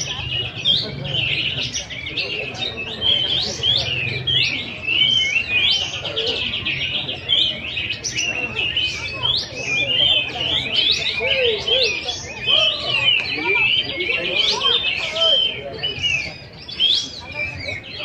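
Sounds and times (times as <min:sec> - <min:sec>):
chorus of songbirds: 0:00.0 - 0:18.0.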